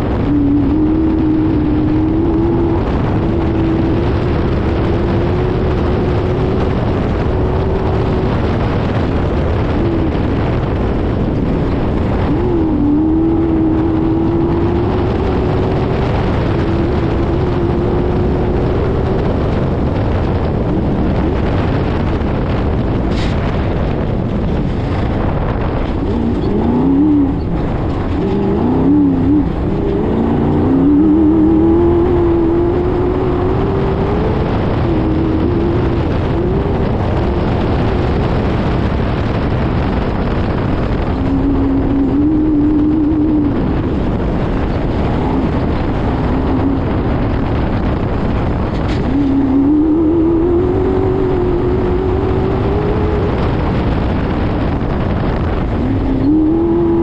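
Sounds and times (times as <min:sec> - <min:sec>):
race car engine revving: 0:00.0 - 0:57.0
wind rushing: 0:00.0 - 0:57.0.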